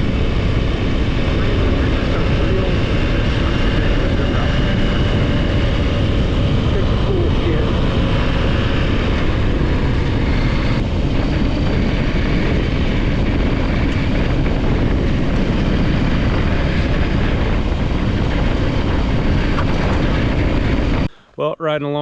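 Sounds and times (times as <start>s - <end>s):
wind noise on microphone: 0.0s - 21.2s
motorcycle engine drone: 0.0s - 22.0s.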